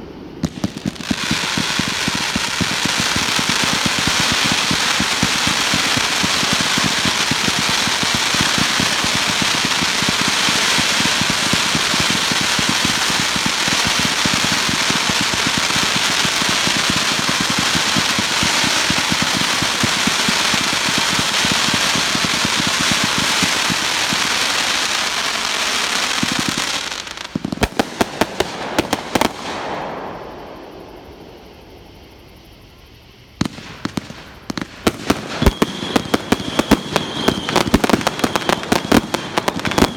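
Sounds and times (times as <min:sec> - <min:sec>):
rapid firework pops: 0:00.4 - 0:24.9, 0:26.0 - 0:29.7, 0:33.4 - 0:39.9.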